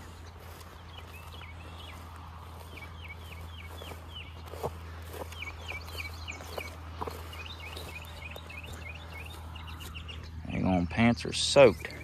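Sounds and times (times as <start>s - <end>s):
footsteps through wet grass: 0.0s - 10.7s
songbird chirping: 0.0s - 12.0s.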